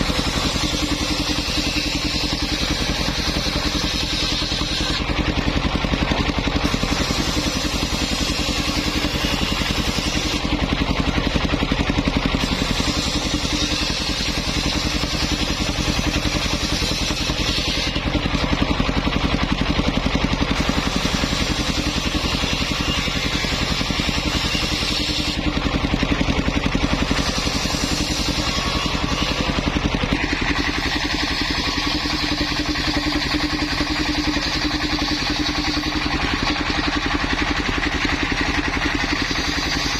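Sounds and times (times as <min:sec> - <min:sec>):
circular saw blade cutting wood: 0:00.0 - 0:39.9
engine running under load: 0:00.0 - 0:39.9.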